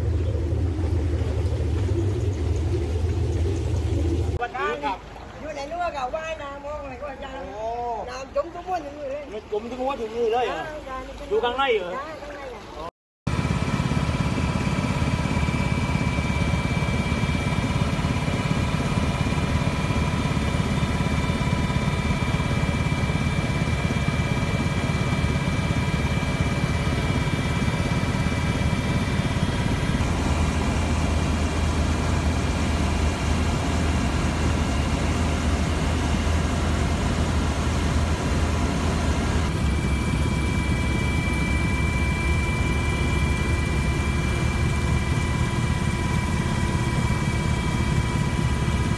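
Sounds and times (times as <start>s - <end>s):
aircraft engine and propeller drone: 0.0s - 6.0s, 13.3s - 48.9s.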